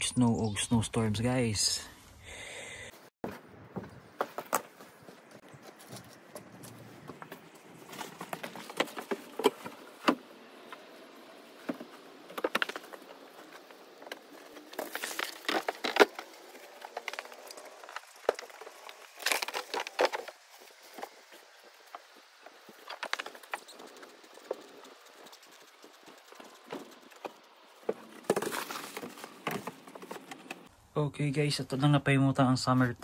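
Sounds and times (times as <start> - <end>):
tires knocking and clicking: 3.7 - 30.7.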